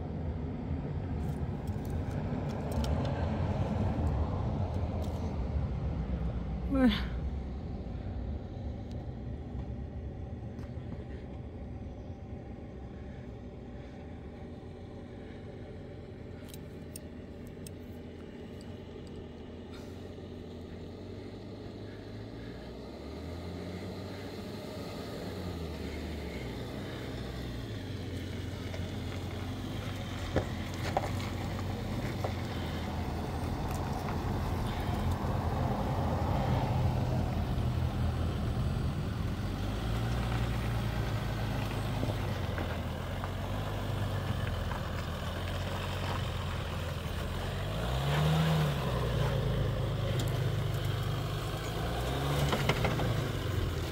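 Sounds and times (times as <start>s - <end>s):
off-road vehicle engine revving: 1.2s - 53.9s.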